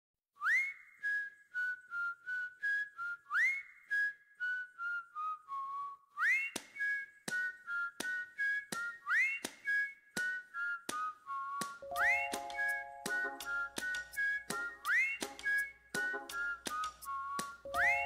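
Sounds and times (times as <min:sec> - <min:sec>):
whistled tune: 0:00.4 - 0:18.0.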